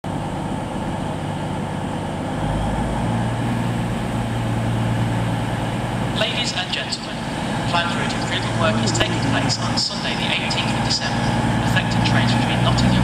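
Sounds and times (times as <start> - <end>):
train diesel engines idling: 0.0 - 13.0.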